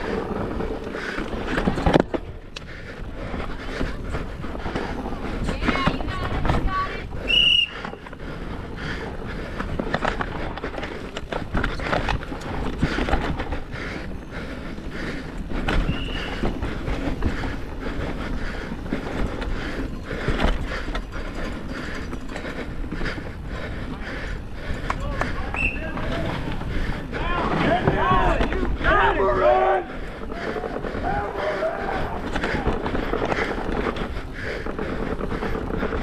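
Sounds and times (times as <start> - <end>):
mountain bike rattling over rocks: 0.0 - 36.0.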